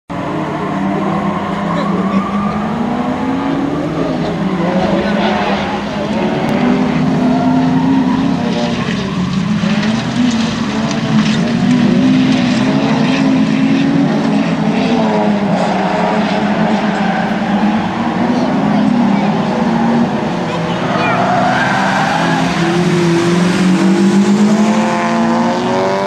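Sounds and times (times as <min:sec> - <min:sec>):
race car engines revving: 0:00.1 - 0:26.0.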